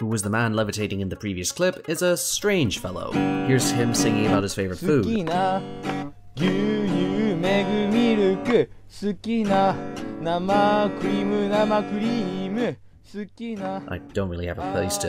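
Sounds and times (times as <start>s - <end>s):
man singing: 0.0s - 5.8s, 6.4s - 15.0s
strummed acoustic guitar: 1.4s - 12.8s, 13.4s - 15.0s.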